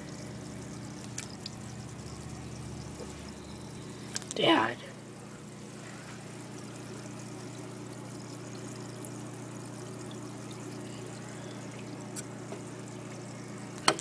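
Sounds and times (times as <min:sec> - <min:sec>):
low steady hum: 0:00.0 - 0:14.0
water splashing and trickling: 0:00.0 - 0:14.0.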